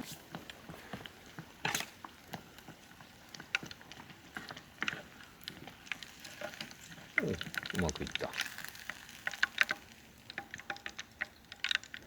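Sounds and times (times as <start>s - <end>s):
campfire crackling pops: 0.0s - 12.0s.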